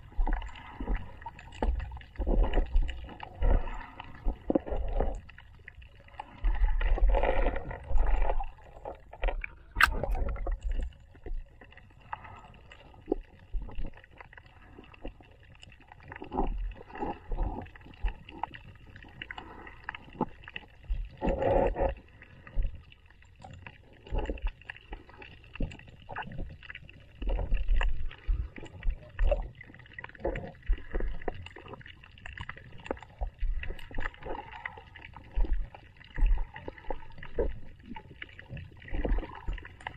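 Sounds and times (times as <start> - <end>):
underwater sloshing and gurgling: 0.0 - 39.9.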